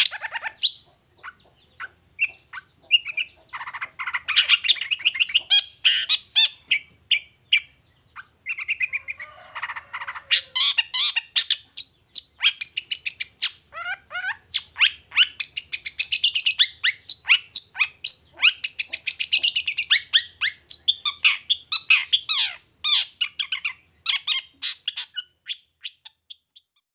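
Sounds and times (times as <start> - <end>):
bird chattering song: 0.0 - 26.9.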